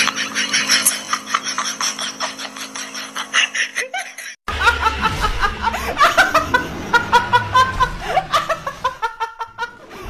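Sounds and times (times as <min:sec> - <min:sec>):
giggling laughter: 0:00.0 - 0:10.0.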